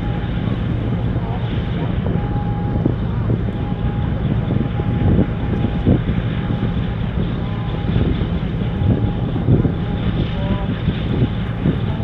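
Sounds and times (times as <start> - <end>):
faint ship engine drone: 0.0 - 12.0
wind buffeting microphone: 0.0 - 12.0.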